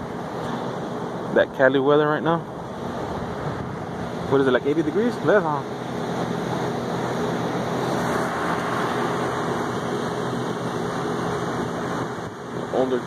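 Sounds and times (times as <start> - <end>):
fan rushing air: 0.0 - 13.0
low compressor hum: 0.0 - 13.0.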